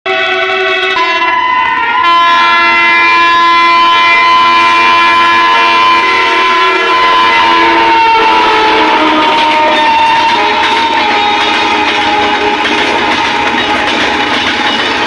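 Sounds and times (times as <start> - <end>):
train horn blast: 0.1 - 13.5.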